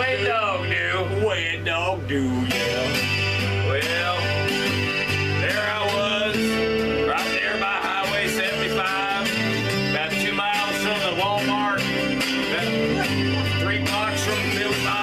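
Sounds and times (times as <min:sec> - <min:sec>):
country acoustic guitar: 0:00.0 - 0:15.0.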